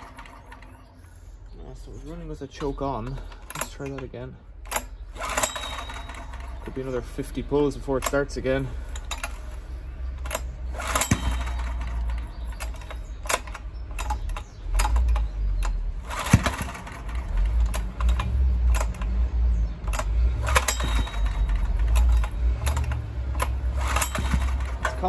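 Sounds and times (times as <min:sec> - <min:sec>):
recoil starter tugs: 0:00.0 - 0:25.0.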